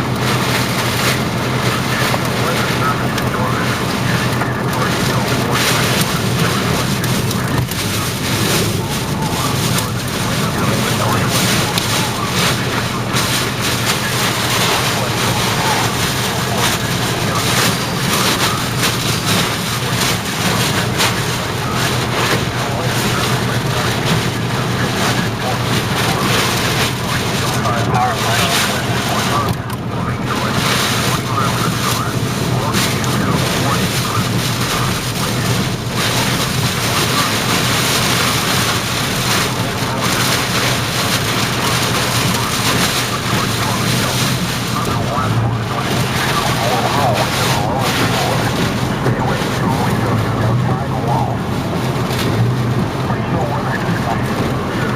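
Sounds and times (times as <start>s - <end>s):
low hum: 0.0s - 54.9s
moving vehicle noise: 0.0s - 54.9s.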